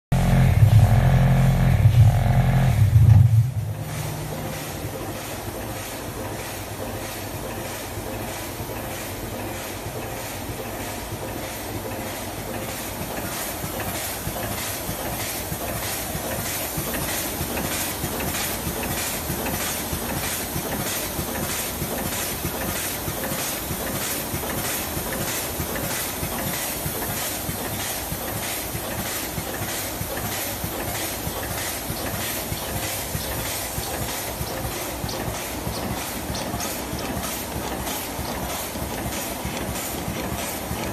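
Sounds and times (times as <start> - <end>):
machine clacking: 3.0 - 40.9
packing machine clatter and hiss: 3.2 - 40.9.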